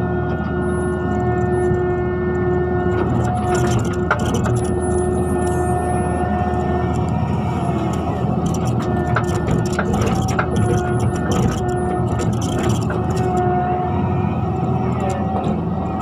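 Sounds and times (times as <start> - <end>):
diesel engine running: 0.0 - 16.0
hydraulic whine: 0.0 - 16.0.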